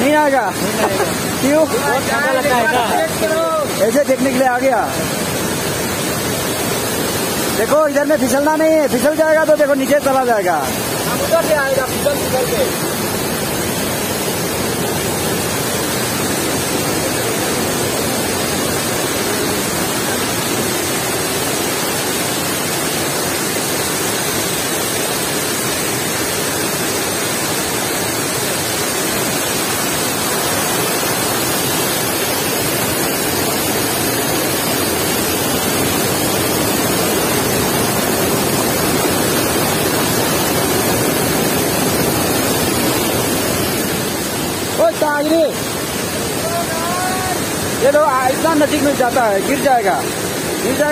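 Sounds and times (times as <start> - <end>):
waterfall rushing and splashing: 0.0 - 50.9.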